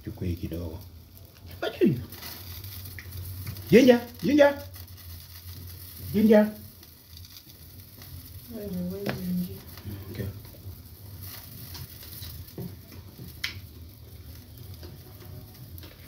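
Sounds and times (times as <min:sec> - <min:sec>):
food sizzling in pan: 0:00.0 - 0:16.0.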